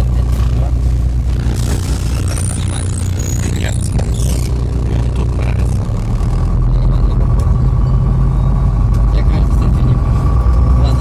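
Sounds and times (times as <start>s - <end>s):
bus engine rumble: 0.0s - 11.0s
thin steady whine: 0.0s - 11.0s.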